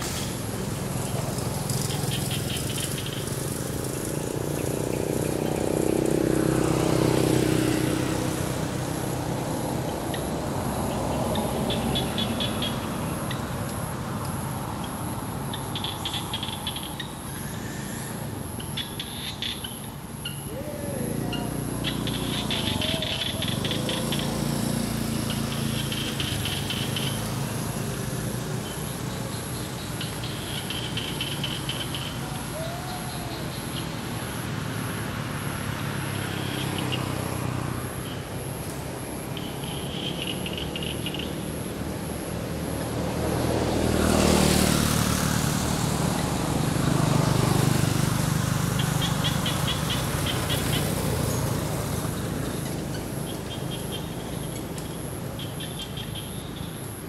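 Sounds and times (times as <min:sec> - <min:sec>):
low rumble of motor traffic: 0:00.0 - 0:57.0
rattling insect trills: 0:00.0 - 0:57.0
vehicle passing: 0:00.0 - 0:57.0.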